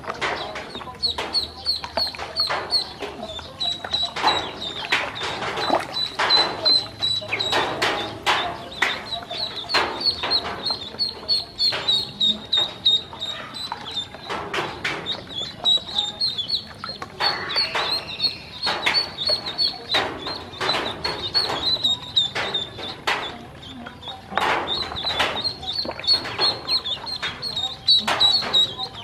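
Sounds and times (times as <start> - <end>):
ducklings peeping: 0.0 - 29.0
water splashing and dabbling: 0.0 - 29.0.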